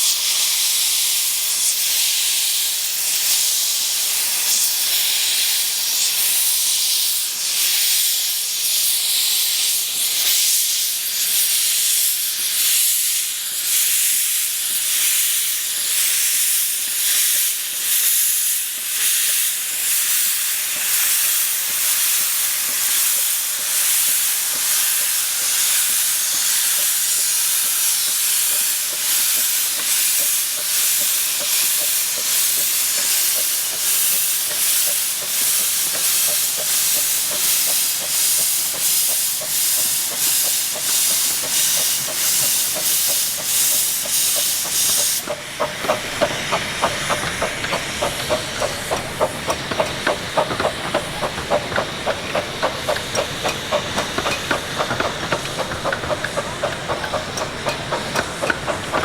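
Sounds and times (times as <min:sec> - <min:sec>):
steam hissing: 0:00.0 - 0:59.0
steam locomotive exhaust puffs: 0:00.0 - 0:59.0.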